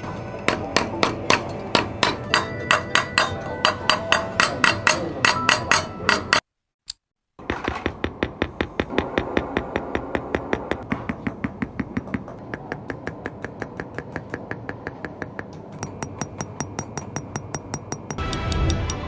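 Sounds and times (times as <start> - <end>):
hand hammer tapping sheet metal: 0.4 - 6.5, 7.4 - 19.0.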